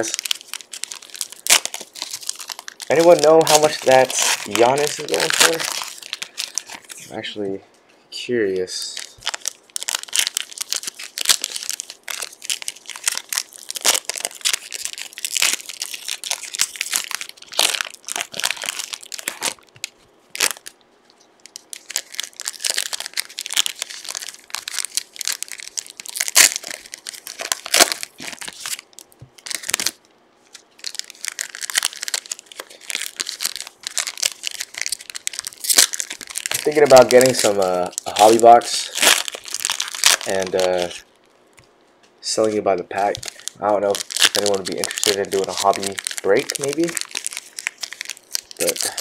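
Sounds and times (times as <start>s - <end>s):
foil wrappers crinkling and tearing: 0.0s - 7.4s, 8.6s - 41.7s, 42.3s - 49.0s.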